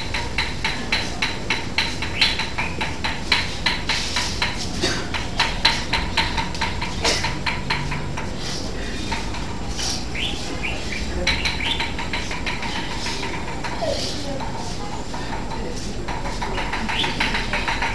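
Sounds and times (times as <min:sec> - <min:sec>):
rhythmic metallic tapping: 0:00.0 - 0:17.9.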